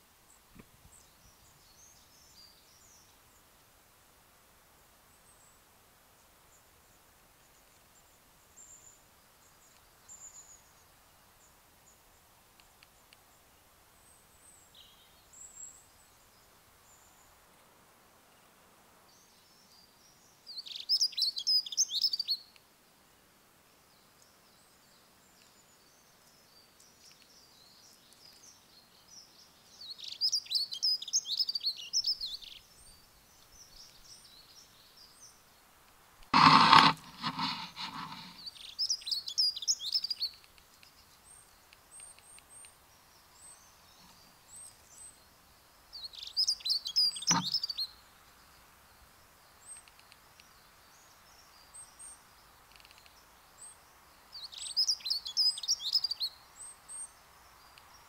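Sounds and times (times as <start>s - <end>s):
songbird singing: 0.0s - 3.6s, 5.2s - 17.4s, 18.3s - 22.6s, 23.8s - 35.8s, 36.4s - 58.0s.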